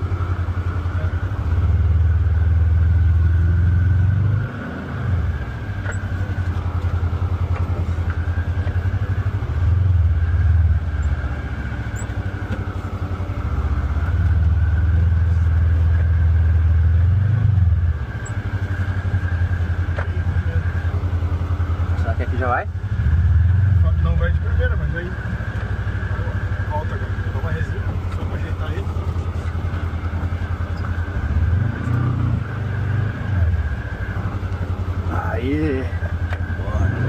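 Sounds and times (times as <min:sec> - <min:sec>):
steady whine: 0:00.0 - 0:37.0
utility vehicle engine revving: 0:00.0 - 0:37.0.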